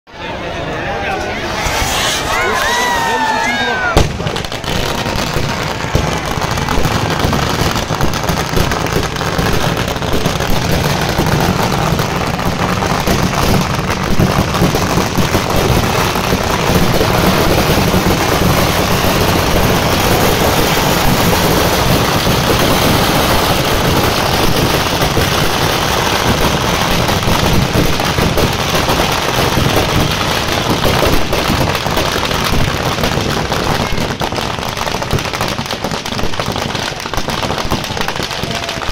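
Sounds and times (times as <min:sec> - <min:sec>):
firecrackers banging and crackling: 0:00.9 - 0:38.9.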